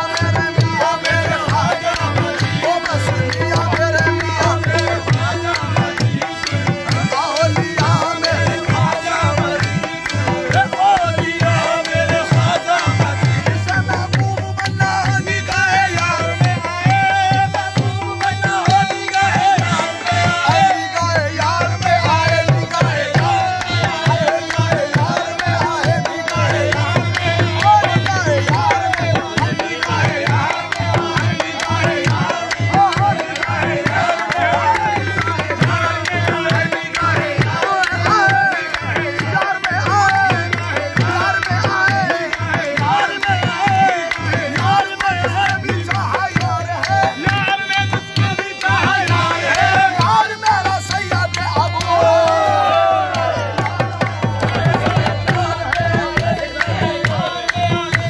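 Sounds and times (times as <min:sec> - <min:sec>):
tabla drumming: 0:00.0 - 0:58.0.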